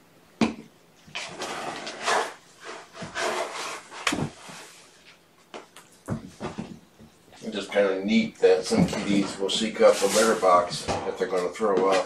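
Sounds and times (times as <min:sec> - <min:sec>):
rustling and scraping: 0:01.0 - 0:12.0.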